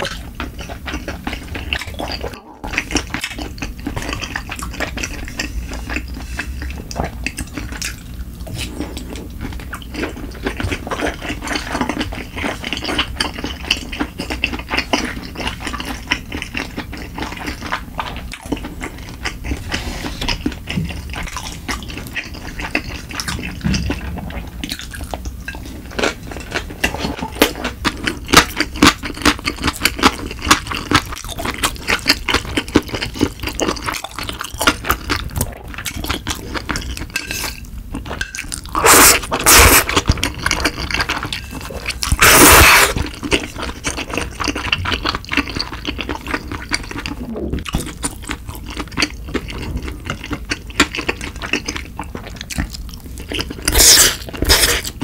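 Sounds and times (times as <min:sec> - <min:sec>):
wet chewing sounds: 0:00.0 - 0:55.0.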